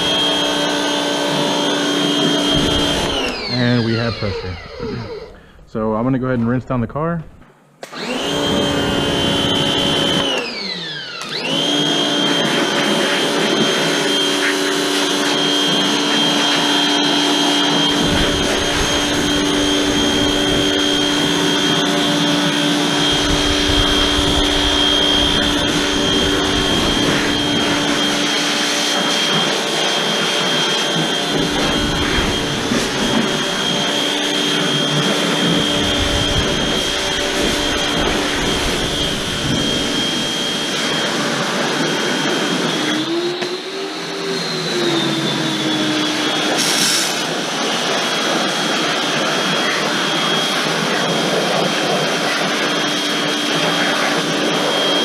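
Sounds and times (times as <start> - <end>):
pressure washer motor whining: 0.0 - 55.0.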